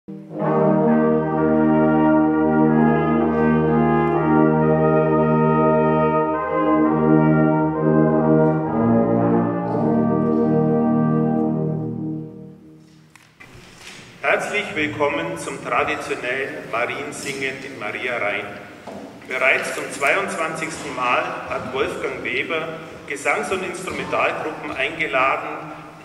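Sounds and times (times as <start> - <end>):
brass ensemble playing chords: 0.1 - 13.0, 17.9 - 26.0.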